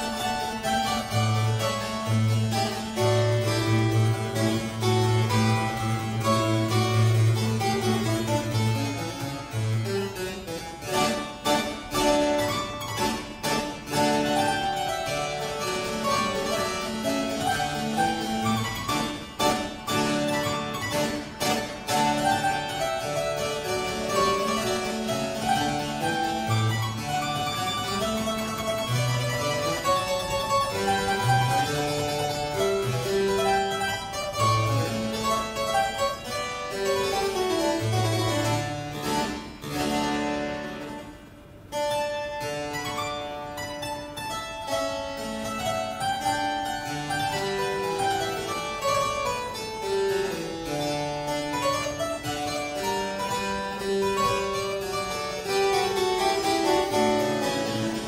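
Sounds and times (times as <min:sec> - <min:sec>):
solo harpsichord playing: 0:00.0 - 0:58.0.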